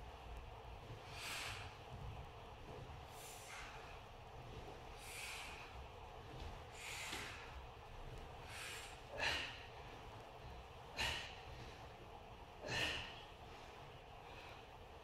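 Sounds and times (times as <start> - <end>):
man breathing hard with exertion: 0.9 - 2.0, 3.1 - 15.0.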